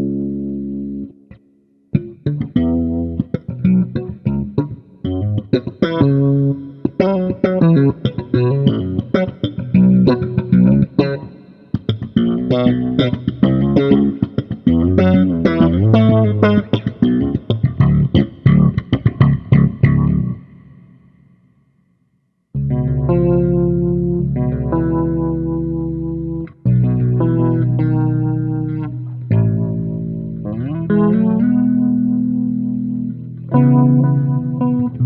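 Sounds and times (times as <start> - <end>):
electric bass guitar notes: 0.0 - 21.2, 22.6 - 35.0.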